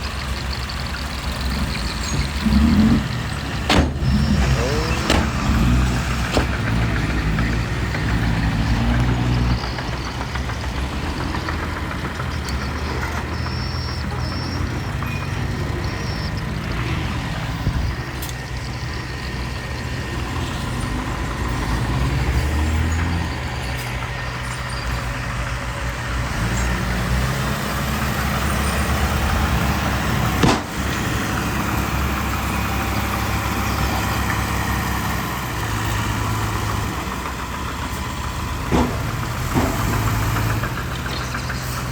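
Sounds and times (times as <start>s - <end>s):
diesel engines working: 0.0s - 41.9s.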